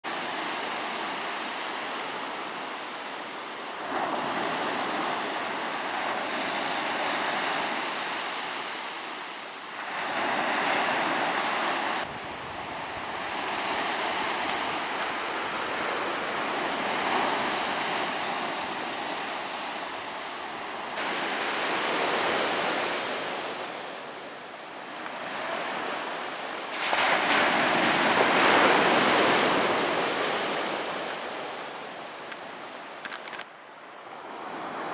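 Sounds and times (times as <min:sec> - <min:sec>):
waves breaking on beach: 0:00.0 - 0:34.9.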